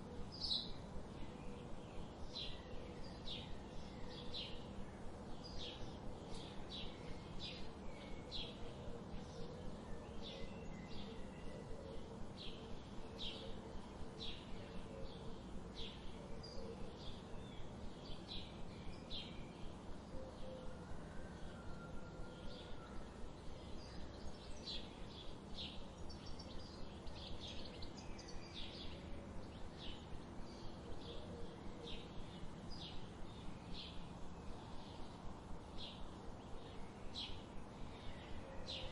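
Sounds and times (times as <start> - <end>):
low outdoor ambient hum: 0.0 - 38.9
songbirds chipping: 0.0 - 38.9.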